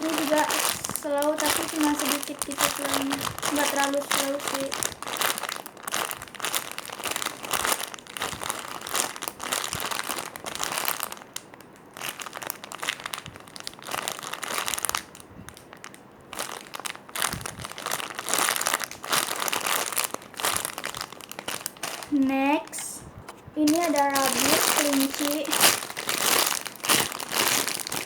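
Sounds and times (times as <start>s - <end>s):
foam toy crinkling and rustling: 0.0s - 28.0s.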